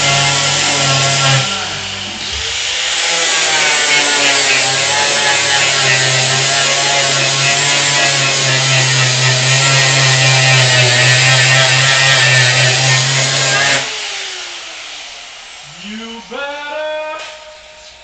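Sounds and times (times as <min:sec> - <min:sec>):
electric power tool running: 0:00.0 - 0:15.7.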